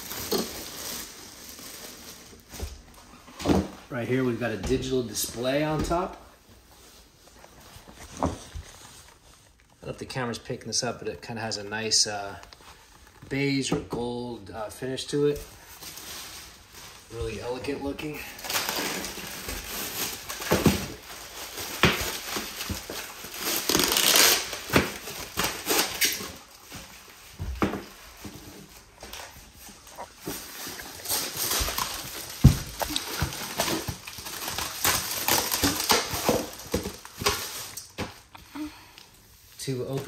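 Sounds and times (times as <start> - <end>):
packaging rustling and crinkling: 0.0 - 10.0, 14.8 - 38.3.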